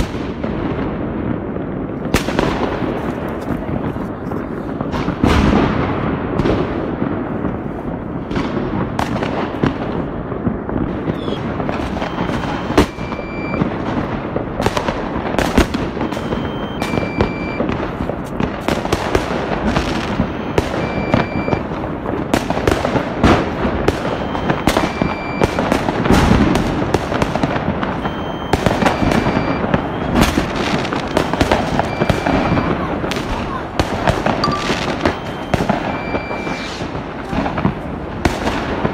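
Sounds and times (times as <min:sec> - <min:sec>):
firecrackers crackling: 0:00.0 - 0:38.9
firework booms: 0:00.0 - 0:38.9.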